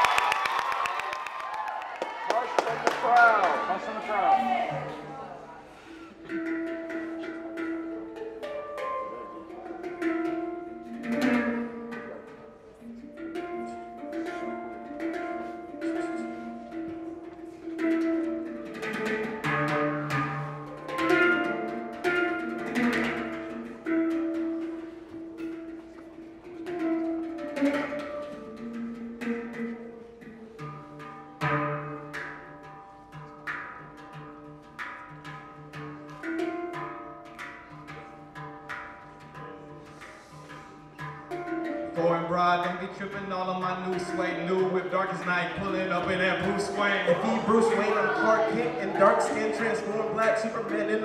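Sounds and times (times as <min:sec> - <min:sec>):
handpan melody: 0:04.4 - 0:51.0.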